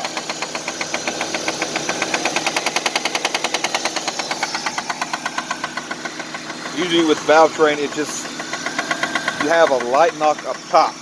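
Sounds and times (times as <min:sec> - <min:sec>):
car engine running: 0:00.0 - 0:11.0
rapid engine knock: 0:00.0 - 0:11.0.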